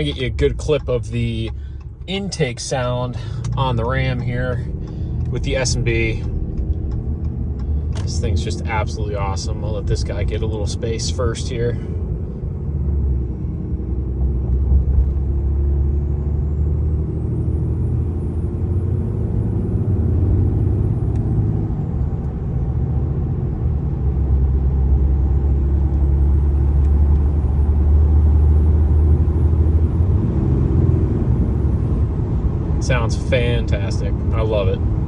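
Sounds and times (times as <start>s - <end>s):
deep diesel engine rumble: 0.0s - 35.0s.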